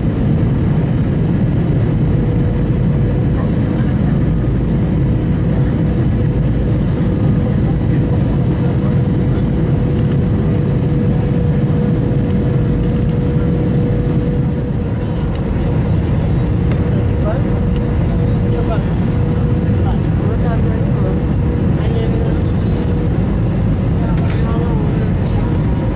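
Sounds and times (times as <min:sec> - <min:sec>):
jet engines and airflow roar: 0:00.0 - 0:25.9.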